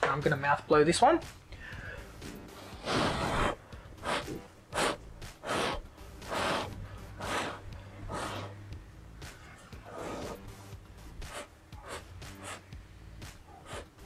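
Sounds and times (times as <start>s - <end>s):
person blowing puffs of breath: 1.5s - 8.7s, 9.8s - 14.0s.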